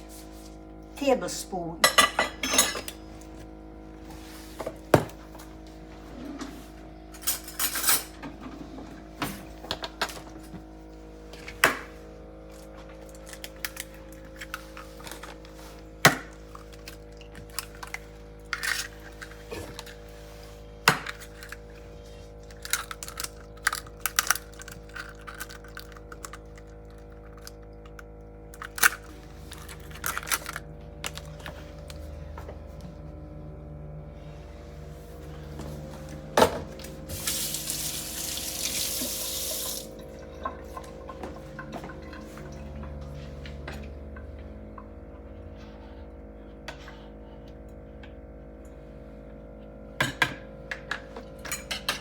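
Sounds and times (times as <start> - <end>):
background hum: 0.0 - 52.0.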